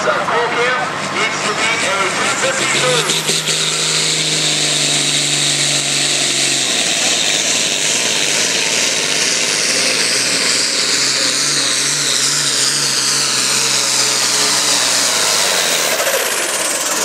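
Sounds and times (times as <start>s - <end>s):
tractor diesel engine under load: 0.0s - 17.0s
turbo whine: 0.0s - 17.0s.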